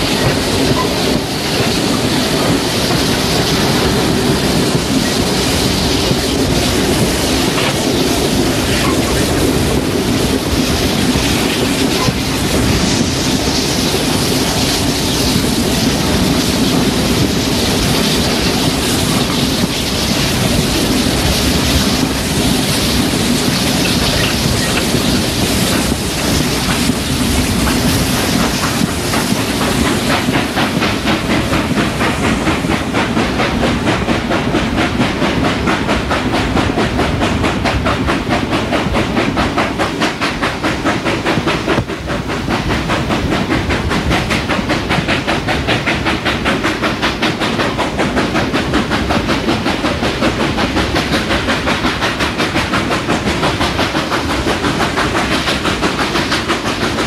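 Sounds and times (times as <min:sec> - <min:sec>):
steam hissing: 0:00.0 - 0:57.0
steam locomotive beat: 0:00.0 - 0:57.0.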